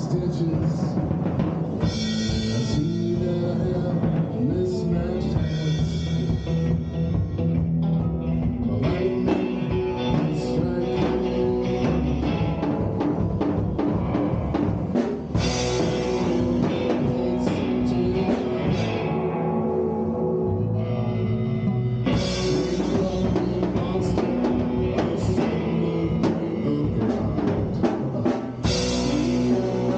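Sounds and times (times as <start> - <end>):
electric guitar chords: 0.0 - 29.9.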